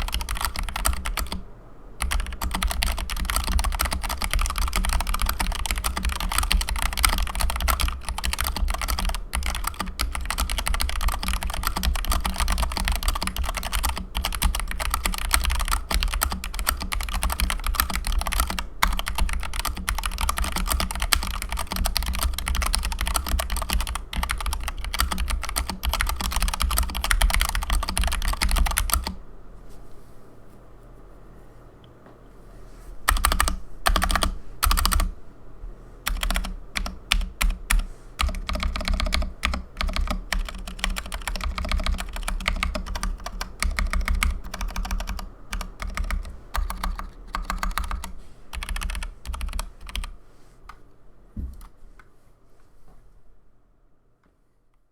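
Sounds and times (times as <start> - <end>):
fast mechanical keyboard typing: 0.0 - 1.4, 2.0 - 29.2, 33.1 - 35.1, 36.1 - 50.2.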